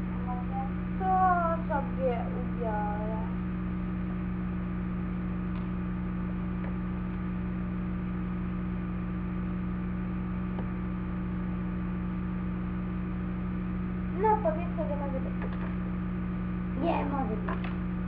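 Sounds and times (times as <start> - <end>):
low hum with hiss: 0.0 - 18.0.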